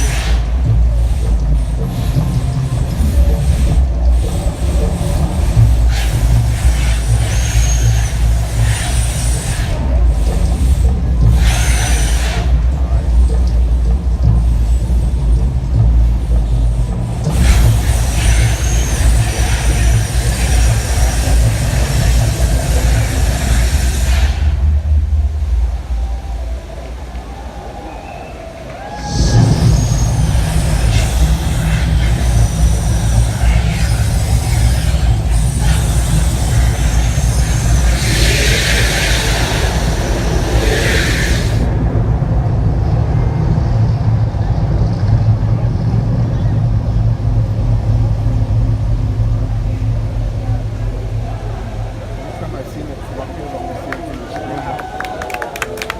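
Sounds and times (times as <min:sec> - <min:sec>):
deep steady rumble: 0:00.0 - 0:55.9
loud hissing rush: 0:00.0 - 0:55.9.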